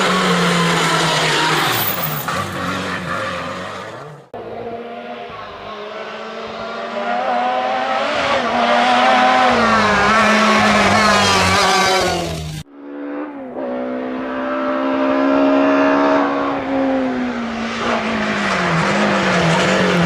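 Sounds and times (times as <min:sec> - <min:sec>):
rally car engine passing: 0:00.0 - 0:20.0.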